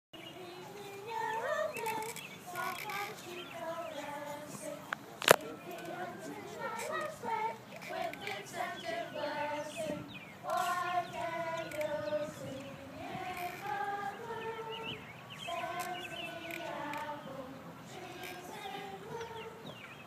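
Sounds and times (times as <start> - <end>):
children singing together: 0.2 - 19.9.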